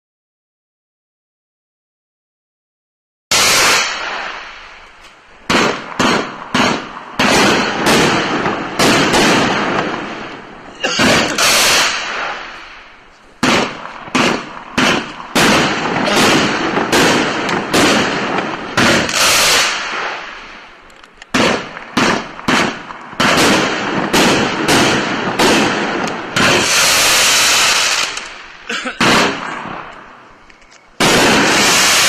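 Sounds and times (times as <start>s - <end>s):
fireworks shots firing: 3.3s - 32.0s.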